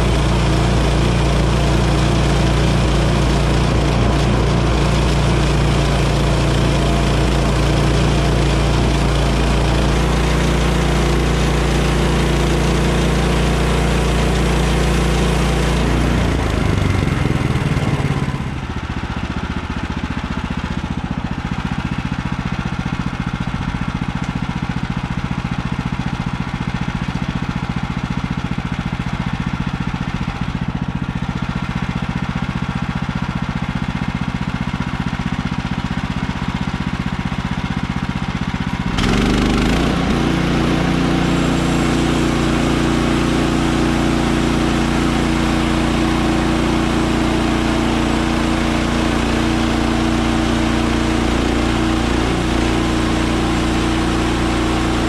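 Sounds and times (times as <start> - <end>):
sawmill gas engine running: 0.0 - 55.0.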